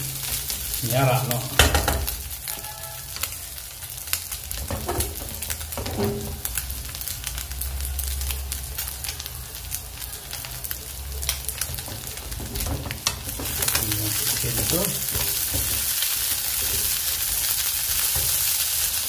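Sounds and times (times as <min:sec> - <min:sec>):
fish frying with crackles and pops: 0:00.0 - 0:19.0.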